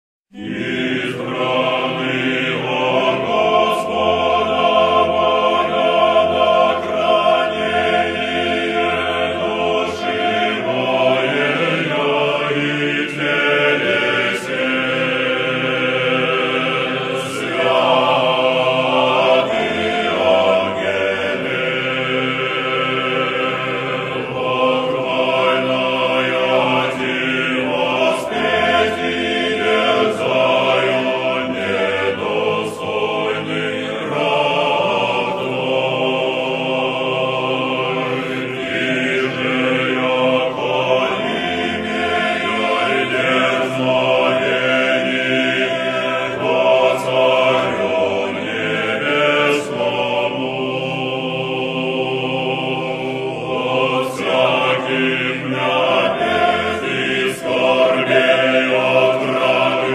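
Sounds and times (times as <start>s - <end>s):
choir chanting: 0.3s - 59.9s.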